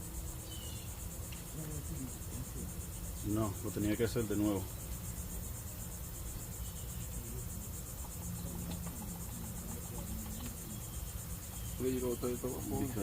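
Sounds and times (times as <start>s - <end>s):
crickets chirping: 0.0s - 13.0s
low background hum: 0.0s - 13.0s.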